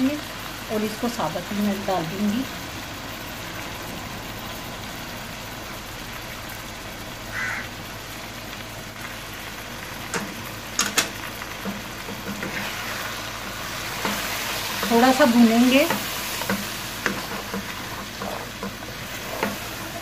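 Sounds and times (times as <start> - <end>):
meat frying in hot oil: 0.0 - 20.0.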